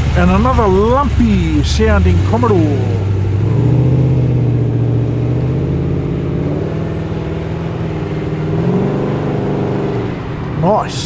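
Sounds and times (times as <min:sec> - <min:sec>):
car engine lumpy idle: 0:00.0 - 0:11.0.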